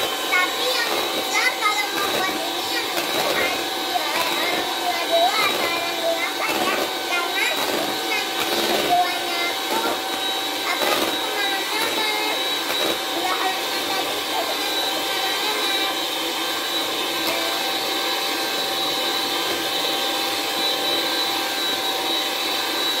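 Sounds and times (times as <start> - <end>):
electric hand mixer whirring: 0.0 - 23.0.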